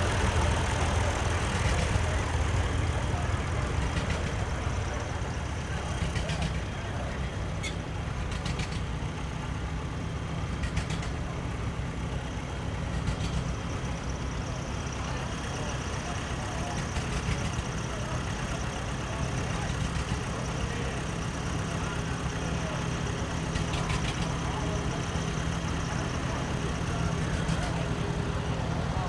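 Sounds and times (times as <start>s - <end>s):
tractor engines running: 0.0s - 29.0s.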